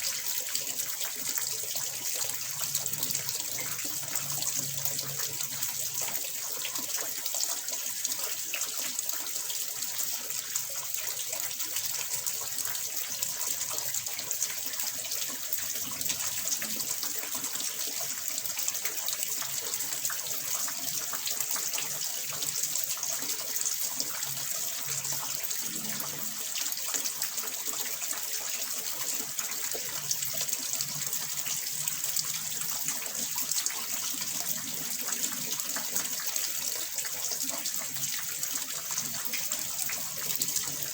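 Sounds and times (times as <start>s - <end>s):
water pouring into pond: 0.0s - 40.9s.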